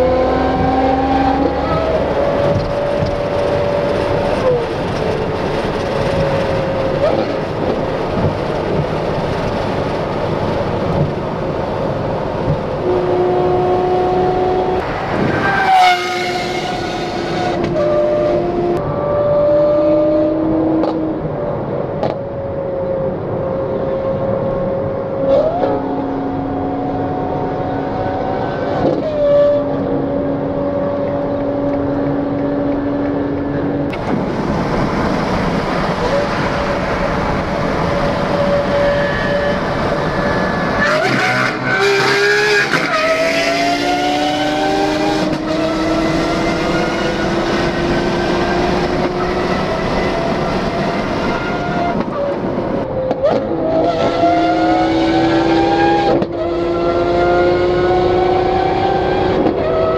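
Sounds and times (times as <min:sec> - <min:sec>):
car engine accelerating hard: 0:00.0 - 0:22.1, 0:23.0 - 0:59.9
road noise: 0:00.0 - 0:59.9
wind noise: 0:00.0 - 0:59.9.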